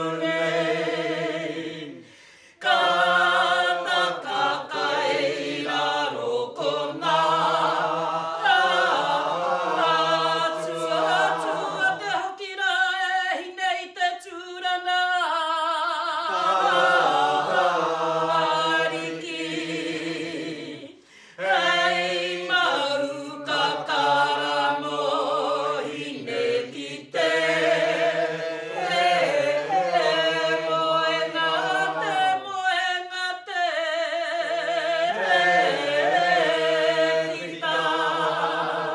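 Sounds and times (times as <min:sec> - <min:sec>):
group chanting in unison: 0:00.0 - 0:12.5, 0:16.2 - 0:38.9.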